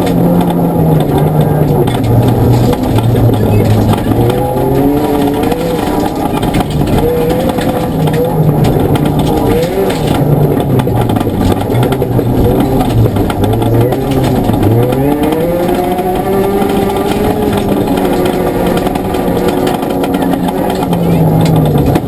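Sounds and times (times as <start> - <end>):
car engine revving at speed: 0.0 - 22.0
tyres on gravel: 0.0 - 22.0.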